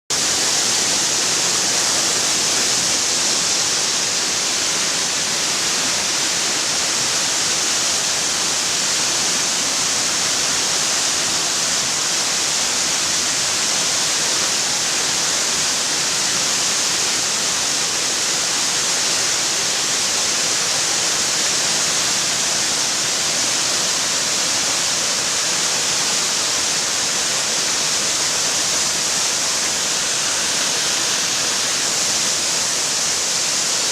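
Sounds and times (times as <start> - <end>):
waterfall splashing: 0.1 - 33.9.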